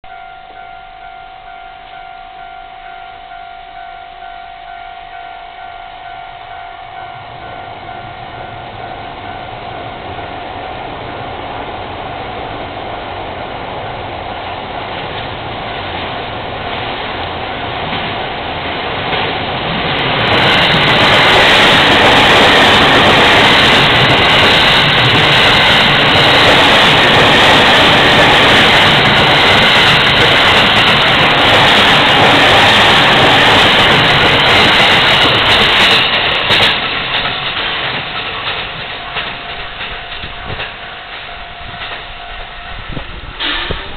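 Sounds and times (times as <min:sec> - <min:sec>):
level-crossing warning bell: 0:00.0 - 0:12.6, 0:13.7 - 0:43.9
train wheels rushing on rails: 0:06.6 - 0:43.9.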